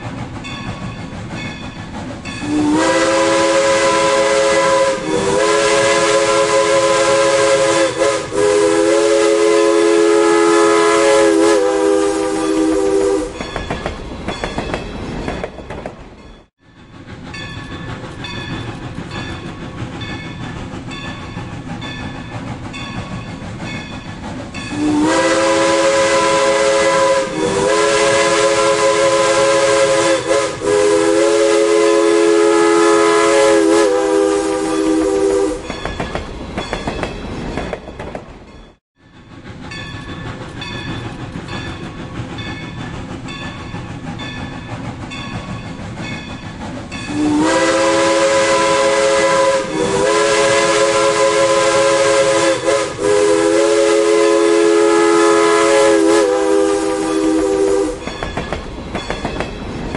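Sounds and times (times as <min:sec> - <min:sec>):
train rumble and clatter: 0:00.0 - 0:59.9
steam locomotive chime whistle: 0:00.4 - 0:14.7, 0:16.4 - 0:37.1, 0:38.7 - 0:59.9.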